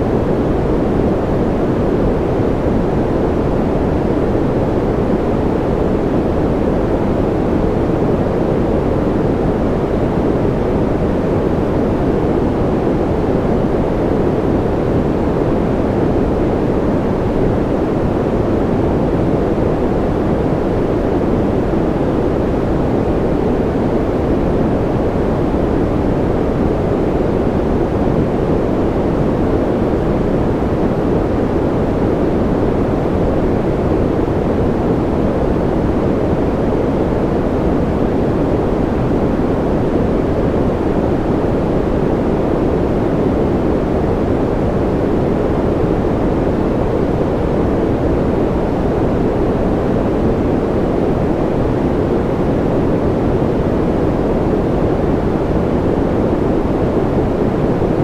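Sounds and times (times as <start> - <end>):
deep rushing white noise: 0.0 - 58.0.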